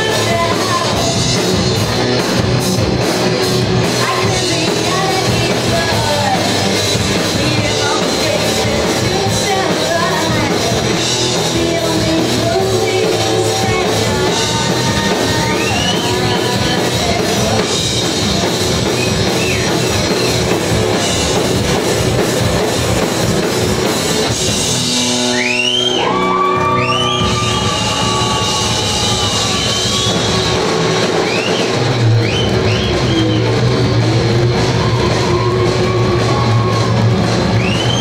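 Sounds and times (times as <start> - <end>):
bass guitar: 0.0 - 38.0
drum kit: 0.0 - 38.0
electric guitar: 0.0 - 38.0.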